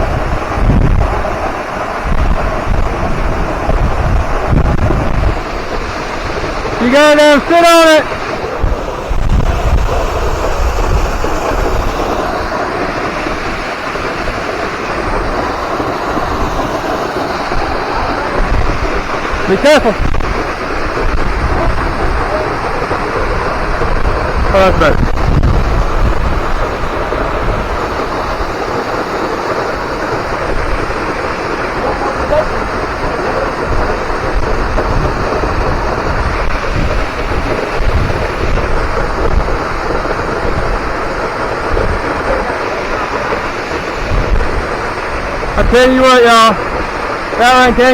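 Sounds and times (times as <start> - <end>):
waterfall roaring: 0.0 - 47.9
wind rumbling on microphone: 0.0 - 47.9.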